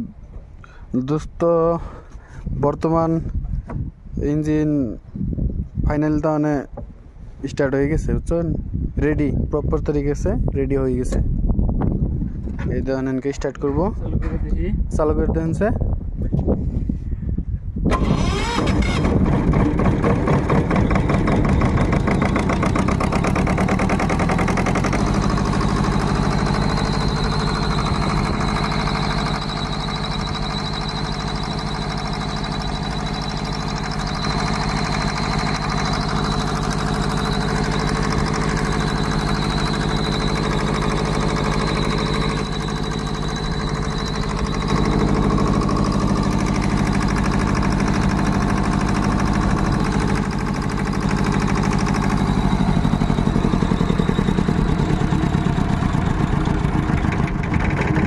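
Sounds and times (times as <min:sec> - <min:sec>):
diesel generator starting and running: 0:00.0 - 0:58.0.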